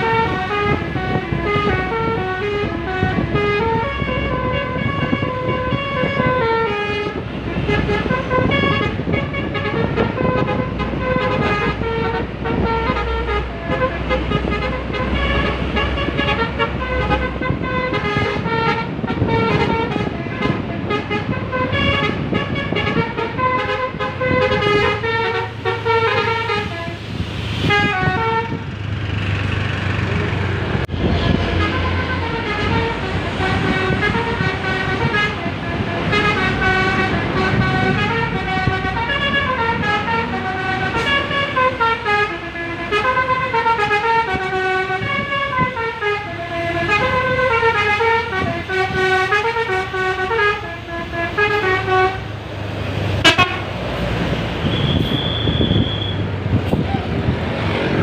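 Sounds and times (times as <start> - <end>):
air horn playing a tune: 0.0 - 27.0, 27.6 - 28.6, 31.1 - 52.3, 53.2 - 53.7
passing traffic rumble: 0.0 - 58.0.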